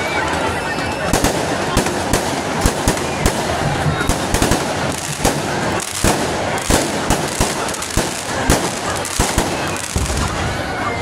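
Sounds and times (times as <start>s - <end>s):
fireworks bangs: 0.2s - 11.0s.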